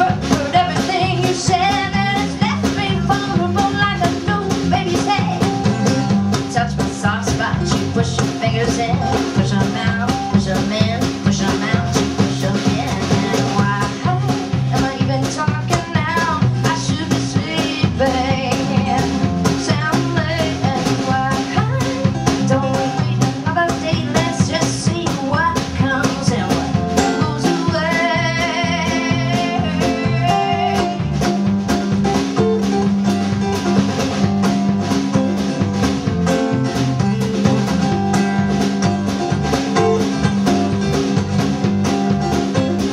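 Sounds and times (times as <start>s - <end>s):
bass guitar: 0.0s - 42.9s
steady drum beat: 0.0s - 42.9s.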